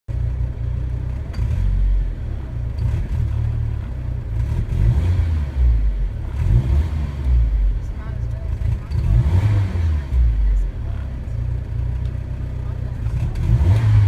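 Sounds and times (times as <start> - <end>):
car engine revving unevenly: 0.1 - 14.0.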